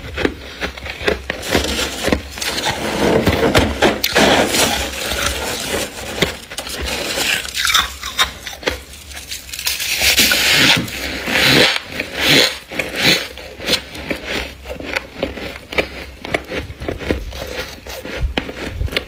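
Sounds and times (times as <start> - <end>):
freezer frost crunching: 0.0 - 19.0
rough scraping: 0.0 - 19.0.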